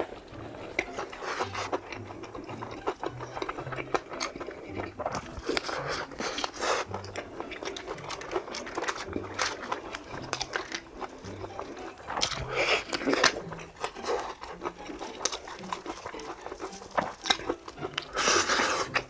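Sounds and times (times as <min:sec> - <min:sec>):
fried chicken crunching: 0:00.0 - 0:19.0.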